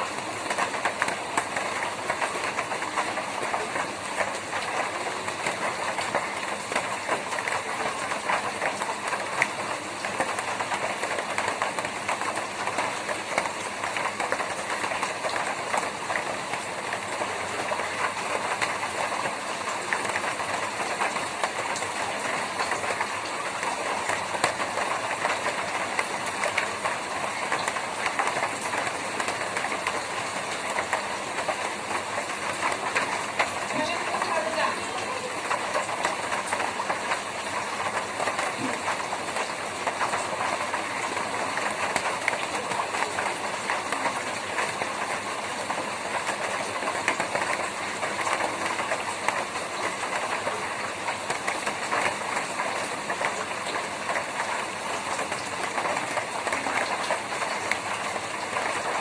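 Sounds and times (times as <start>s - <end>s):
rain on a tin roof: 0.0s - 59.0s.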